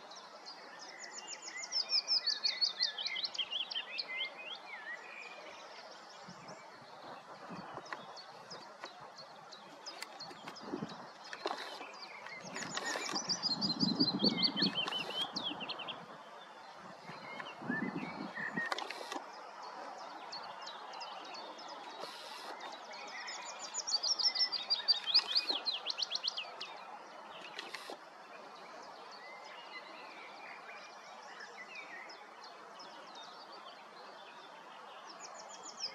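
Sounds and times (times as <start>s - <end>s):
small birds calling faintly: 0.0s - 35.9s
warbler singing: 0.0s - 35.9s.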